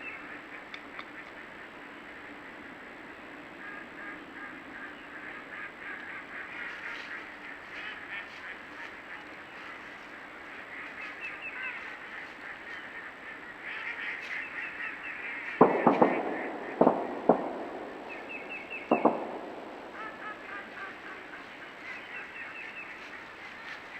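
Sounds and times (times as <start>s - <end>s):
geese honking: 0.0s - 23.9s.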